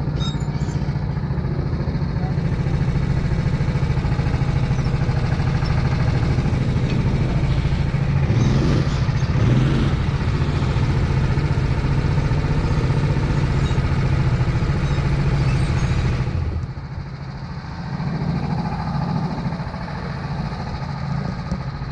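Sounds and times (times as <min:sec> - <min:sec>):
go-kart engine running: 0:00.0 - 0:21.9.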